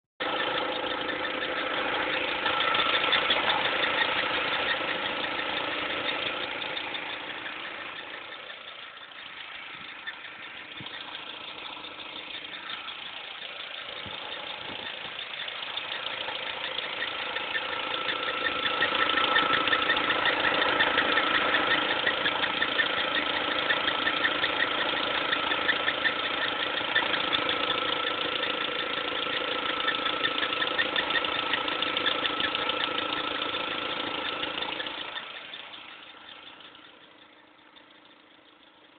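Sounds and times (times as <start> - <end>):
car engine running: 0.2 - 38.9
drive belt squeaking and chirping: 0.2 - 38.9.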